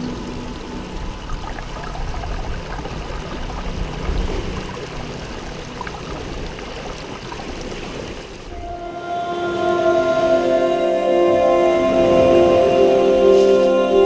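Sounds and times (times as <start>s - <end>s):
small waves washing on beach: 0.0s - 14.0s.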